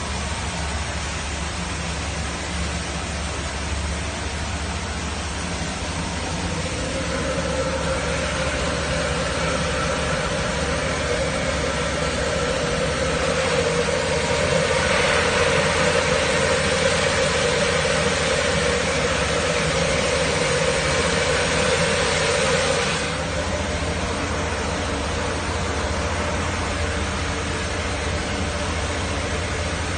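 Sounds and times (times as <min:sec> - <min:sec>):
milling machine humming: 0:00.0 - 0:29.9
rice pouring from chute: 0:00.0 - 0:29.9.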